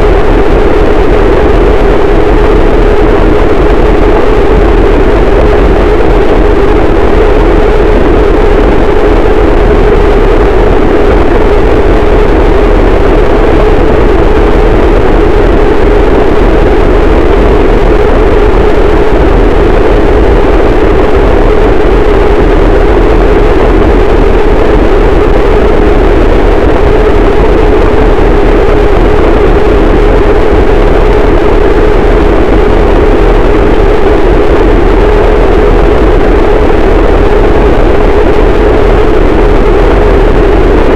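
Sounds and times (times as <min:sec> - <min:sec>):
distorted noise wall: 0:00.0 - 0:40.9.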